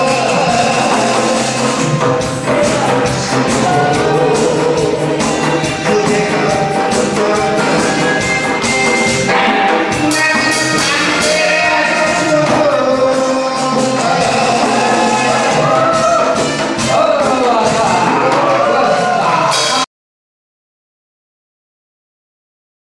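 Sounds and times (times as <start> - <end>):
man singing through microphone: 0.0 - 8.7, 10.0 - 19.8.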